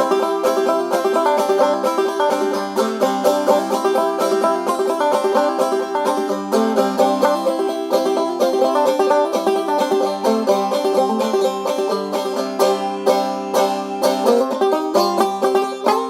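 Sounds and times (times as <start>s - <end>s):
fast-picked banjo tune: 0.0s - 16.0s.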